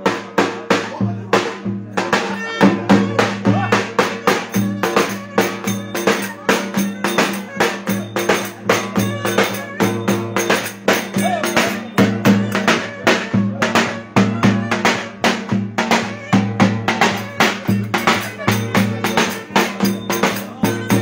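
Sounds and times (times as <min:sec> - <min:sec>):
bass drum beating: 0:00.0 - 0:21.0.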